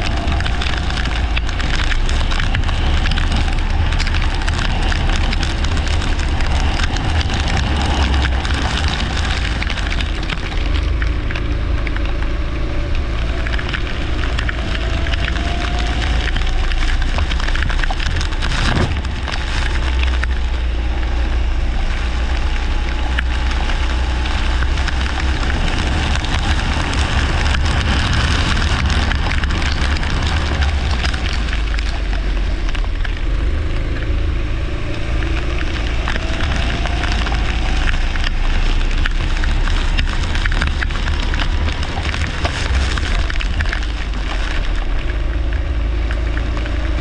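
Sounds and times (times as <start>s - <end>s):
constant crackling: 0.0s - 47.0s
kart engines racing: 0.0s - 47.0s.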